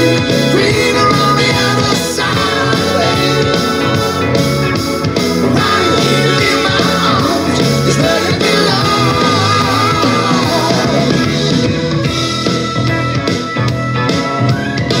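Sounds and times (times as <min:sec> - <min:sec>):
song with singer and band: 0:00.0 - 0:15.0.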